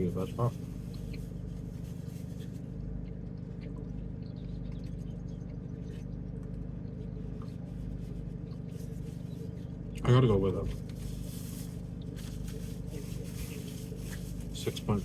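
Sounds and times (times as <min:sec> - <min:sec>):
car cabin hum: 0:00.0 - 0:05.1, 0:05.8 - 0:15.0
clicks and rustles of eating: 0:00.0 - 0:15.0.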